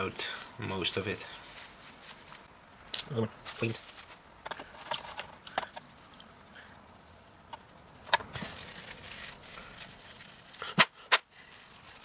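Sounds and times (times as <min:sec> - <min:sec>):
faint rustling of small parts: 0:00.2 - 0:12.0.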